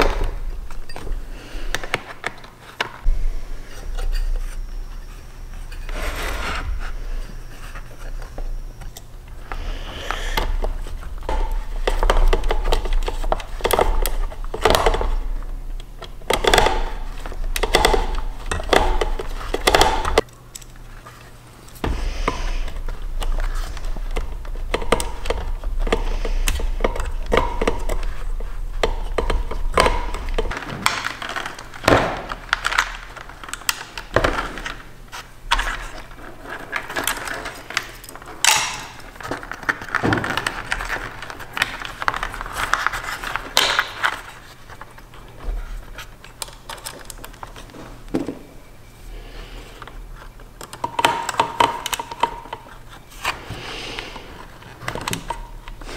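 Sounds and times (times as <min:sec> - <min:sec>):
low steady hum: 0:00.0 - 0:55.9
wires and plastic parts handled: 0:00.0 - 0:55.9.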